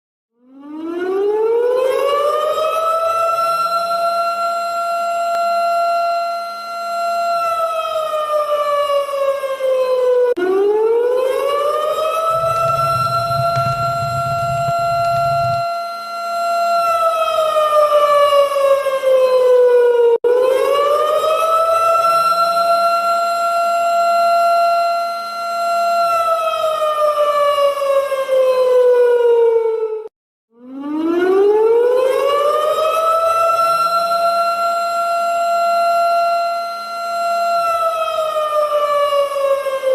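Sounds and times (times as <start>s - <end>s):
warning siren: 0.3s - 39.9s.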